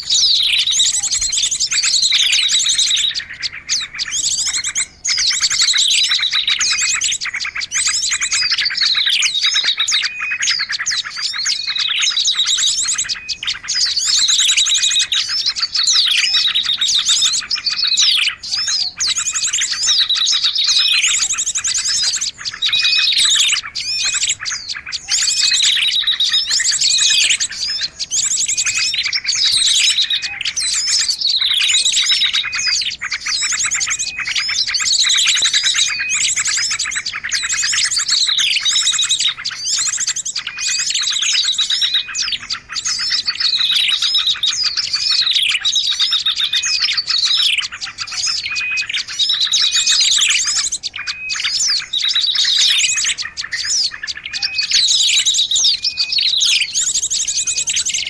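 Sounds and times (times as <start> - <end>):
falling whistled bird notes: 0.0 - 58.0
small birds chirping and twittering: 0.0 - 58.0.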